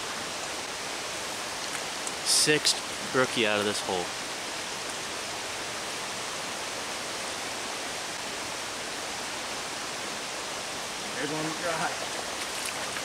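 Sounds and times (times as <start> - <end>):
stream rushing over riffles: 0.0 - 13.0.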